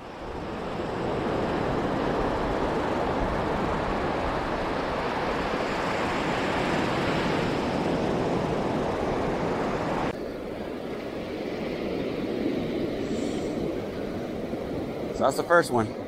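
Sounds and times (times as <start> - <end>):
breaking surf: 0.0 - 16.0
wind buffeting microphone: 0.0 - 16.0.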